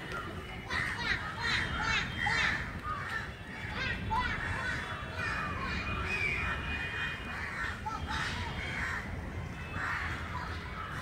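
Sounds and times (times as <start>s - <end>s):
crows cawing: 0.7s - 11.0s.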